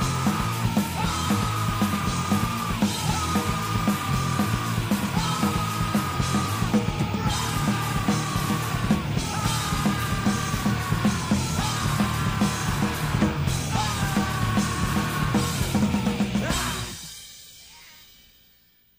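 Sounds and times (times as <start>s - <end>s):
driving drums: 0.0s - 17.7s
shouted vocals: 0.0s - 18.1s
distorted guitars: 0.0s - 18.3s.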